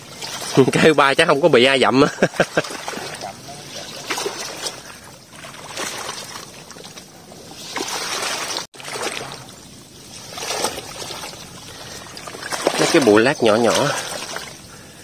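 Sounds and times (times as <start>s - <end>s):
water sloshing around legs: 0.0s - 15.0s.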